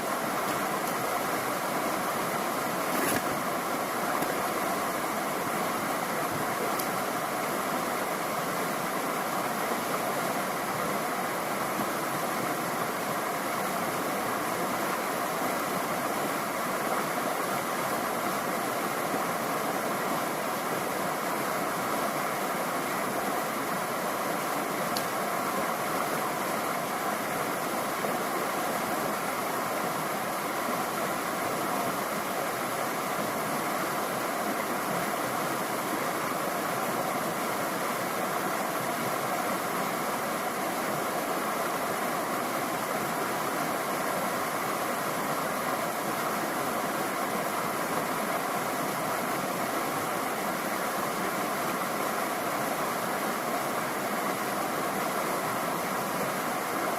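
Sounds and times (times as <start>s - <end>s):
creek water rushing: 0.0s - 56.9s.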